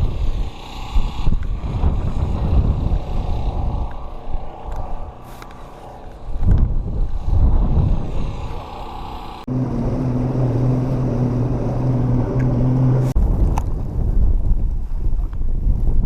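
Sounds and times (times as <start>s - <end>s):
low motor hum: 0.0s - 13.9s
wind buffeting the microphone: 0.0s - 16.0s.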